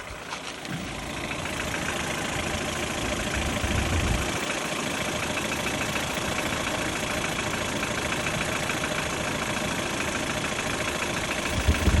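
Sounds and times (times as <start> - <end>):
car engine idling with knock: 0.0 - 12.0.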